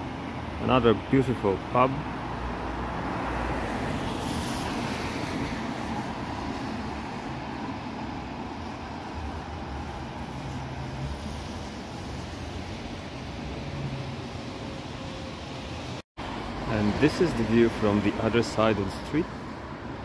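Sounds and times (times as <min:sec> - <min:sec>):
busy road traffic: 0:00.0 - 0:20.0.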